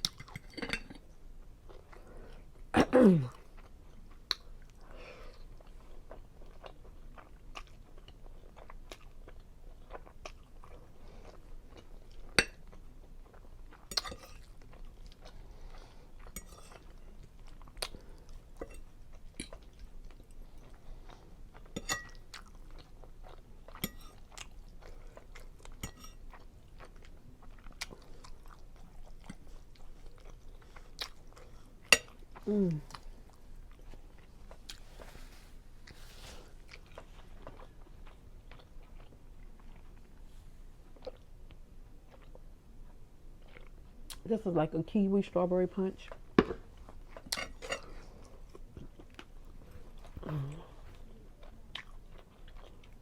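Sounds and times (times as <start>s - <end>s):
wet chewing mouth sounds: 3.3s - 40.2s, 46.1s - 53.0s.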